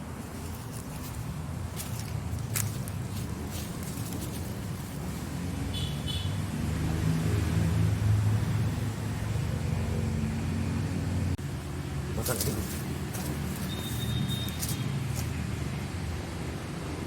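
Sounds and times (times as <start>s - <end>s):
vehicle engine rumble: 0.0s - 16.9s.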